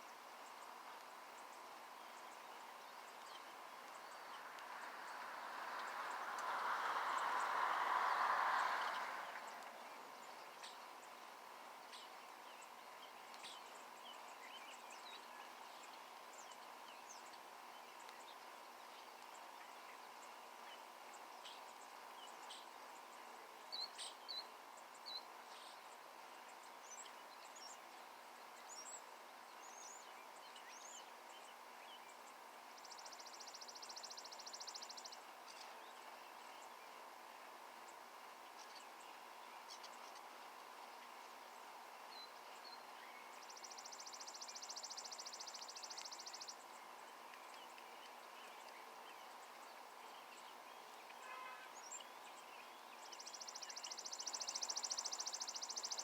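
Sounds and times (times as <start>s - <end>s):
faint steady hum: 0.0s - 56.0s
small birds chirping: 0.0s - 56.0s.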